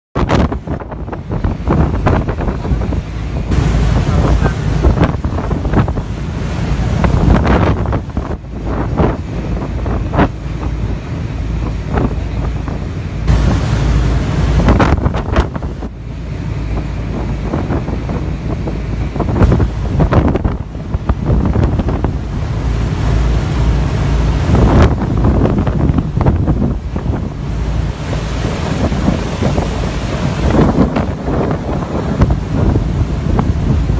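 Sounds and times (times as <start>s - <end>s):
rough wind-whipped water: 0.2s - 33.9s
storm wind gusting on microphone: 0.2s - 33.9s.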